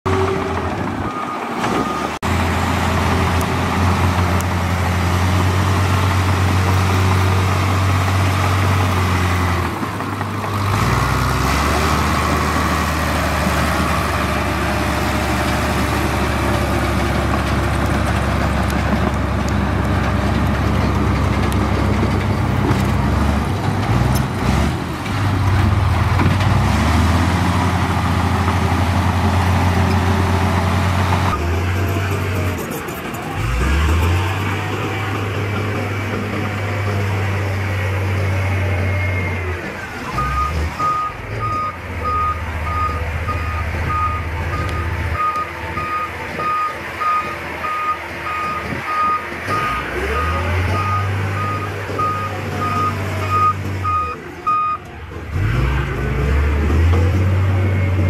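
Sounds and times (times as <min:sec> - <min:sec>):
diesel engines running: 0:00.1 - 0:58.0.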